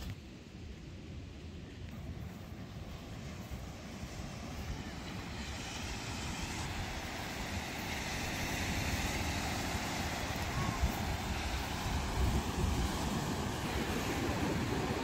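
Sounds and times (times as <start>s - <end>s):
sea surf washing: 1.5s - 15.0s
wind buffeting microphone: 1.9s - 15.0s.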